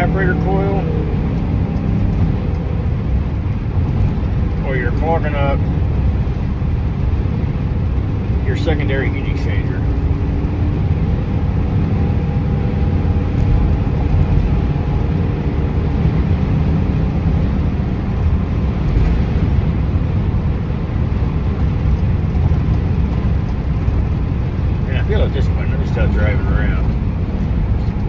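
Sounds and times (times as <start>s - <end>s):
road and engine rumble: 0.0s - 28.0s.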